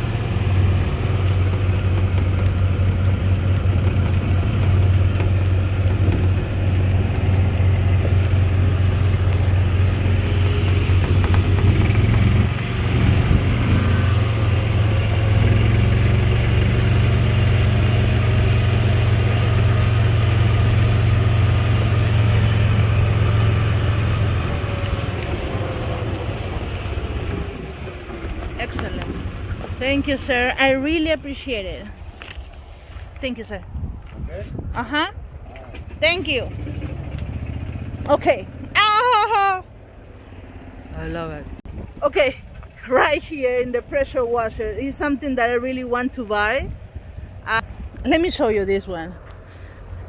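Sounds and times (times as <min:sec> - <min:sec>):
vehicle engine humming: 0:00.0 - 0:50.0.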